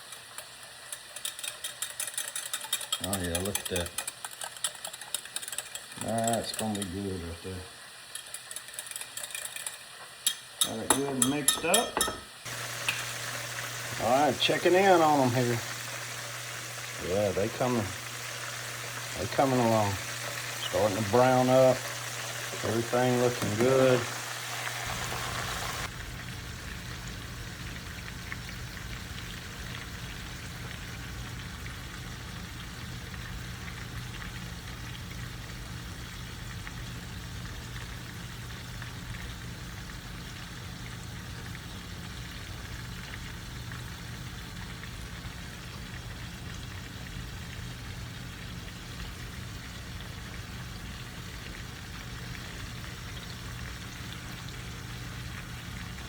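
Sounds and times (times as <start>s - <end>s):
food deep-frying in oil: 0.0s - 56.0s.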